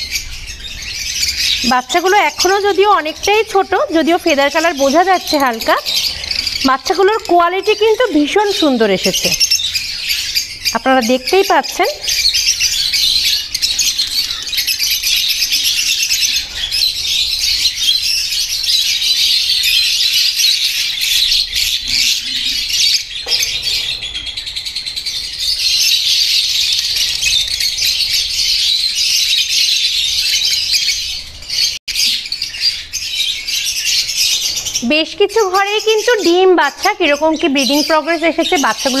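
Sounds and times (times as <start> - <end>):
lovebirds chattering and chirping: 0.0 - 39.0.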